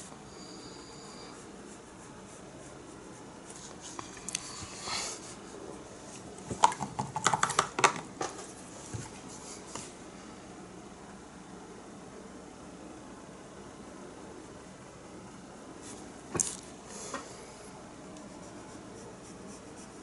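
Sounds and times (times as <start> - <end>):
faint room hiss: 0.0 - 20.0.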